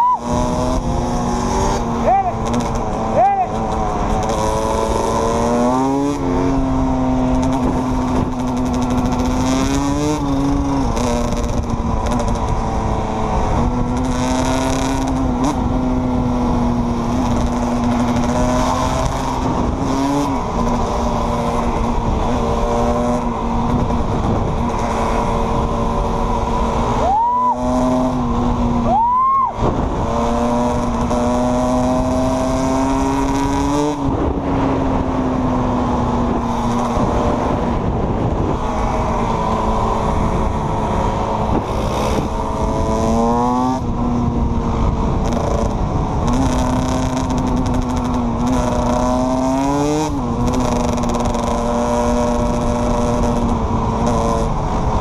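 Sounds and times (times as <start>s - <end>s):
quad and dirt bike engines: 0.0s - 55.0s.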